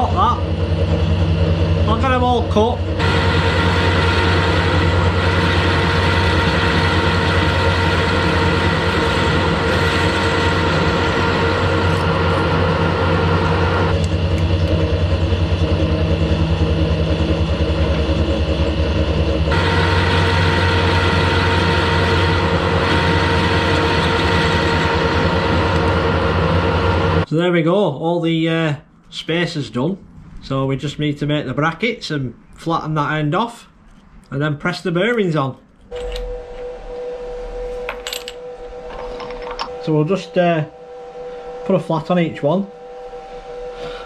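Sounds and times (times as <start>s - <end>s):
lathe motor humming and whining: 0.0s - 27.3s, 35.9s - 44.0s.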